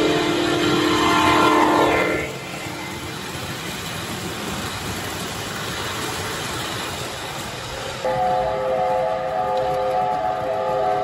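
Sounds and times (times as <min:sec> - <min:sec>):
model train wheels on rails: 0:00.0 - 0:11.0.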